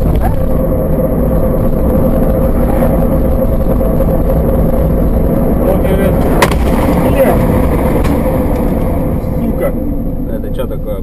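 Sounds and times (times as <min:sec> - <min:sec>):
car engine and road noise: 0:00.0 - 0:11.0
faint whine: 0:00.0 - 0:11.0.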